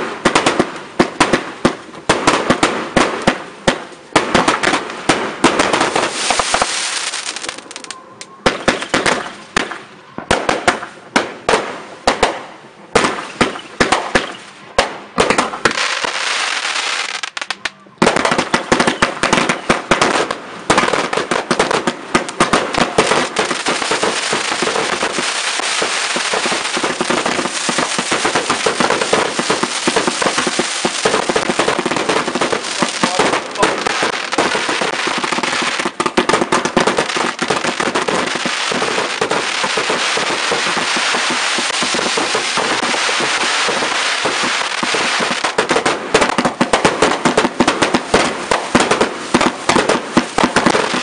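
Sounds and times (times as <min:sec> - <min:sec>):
fireworks bangs and crackle: 0:00.0 - 0:51.0.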